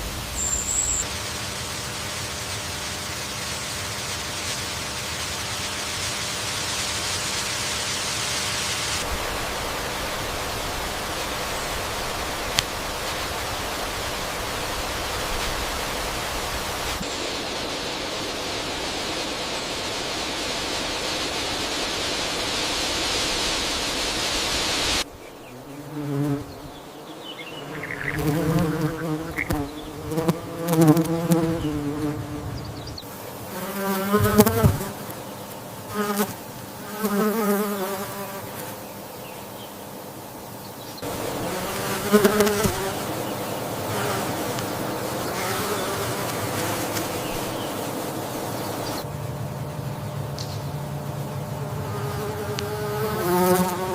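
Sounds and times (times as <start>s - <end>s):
flying insects buzzing: 0.0s - 53.9s
steady hiss: 0.0s - 53.9s.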